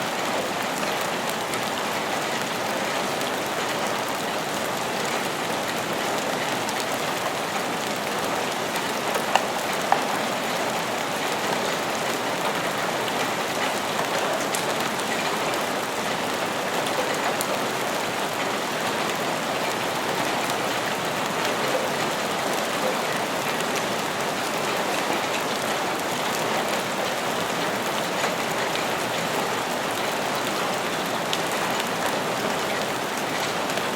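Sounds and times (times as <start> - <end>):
steady rain on a surface: 0.0 - 33.9.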